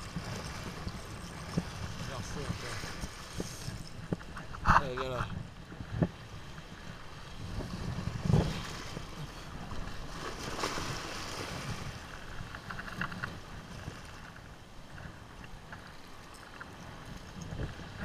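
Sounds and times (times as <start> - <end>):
small waves washing on rocks: 0.0 - 18.0
wind rumbling on microphone: 0.0 - 18.0.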